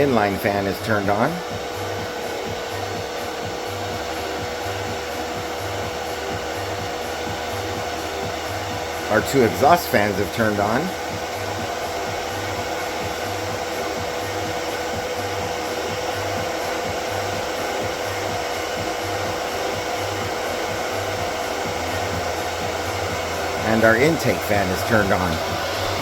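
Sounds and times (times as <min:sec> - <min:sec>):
fan hum: 0:00.0 - 0:26.0
fans whooshing air: 0:00.0 - 0:26.0.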